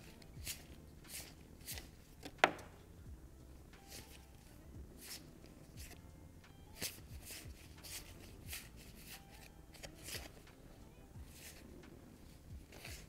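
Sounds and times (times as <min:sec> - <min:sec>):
playing cards flicking and rustling: 0:00.0 - 0:02.8, 0:03.8 - 0:06.0, 0:06.7 - 0:13.0.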